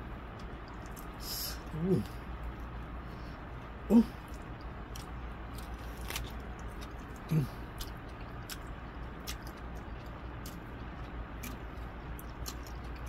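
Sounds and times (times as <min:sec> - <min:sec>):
man chewing: 0:00.3 - 0:13.0.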